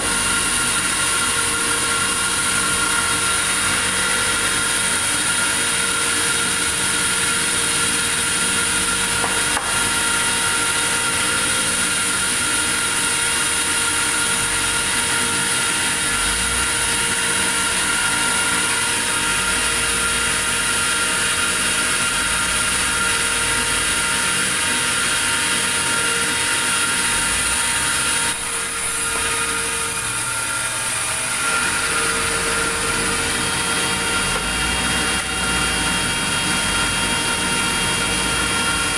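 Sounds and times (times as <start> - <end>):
machine whining steadily: 0.0 - 38.9.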